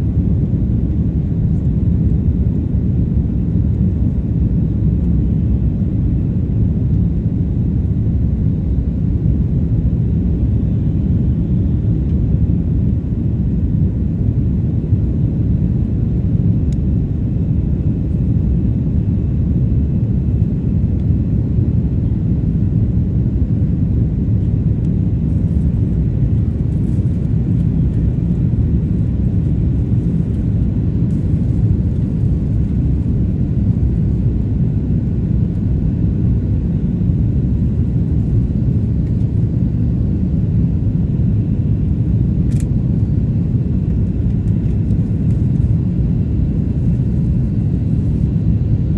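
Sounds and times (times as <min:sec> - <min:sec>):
jet engines rumbling: 0:00.0 - 0:48.9.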